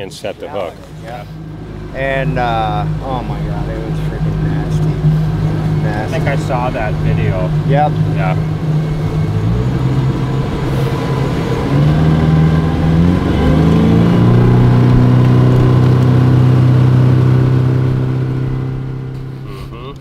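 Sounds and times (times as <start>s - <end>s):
outboard motor throttling up: 0.0s - 19.5s.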